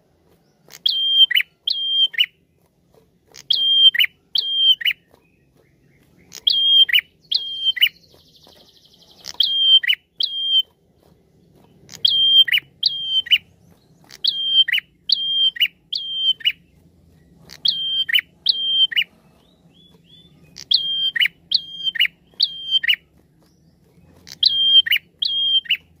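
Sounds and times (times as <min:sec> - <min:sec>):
bird trill: 0:00.4 - 0:02.4, 0:03.2 - 0:26.0
bird calling sharp notes: 0:00.6 - 0:02.4, 0:03.2 - 0:26.0.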